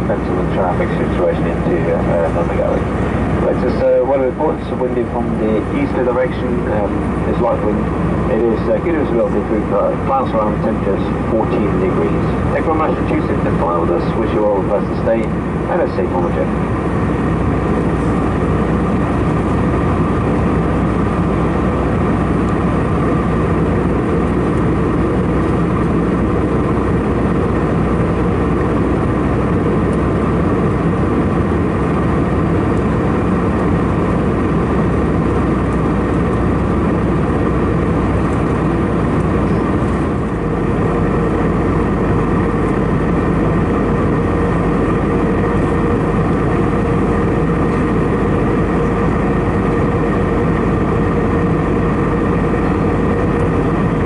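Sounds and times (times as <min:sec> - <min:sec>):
airplane cabin airflow and engine drone: 0:00.0 - 0:54.0
faint steady hum: 0:00.0 - 0:54.0.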